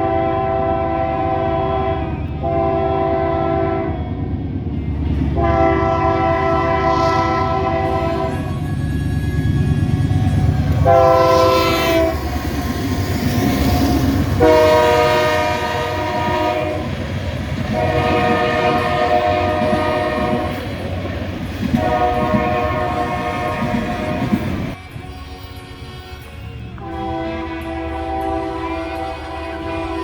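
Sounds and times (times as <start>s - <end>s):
train horn blasts: 0.0s - 4.2s, 5.2s - 30.0s
moving train rumble: 0.0s - 30.0s.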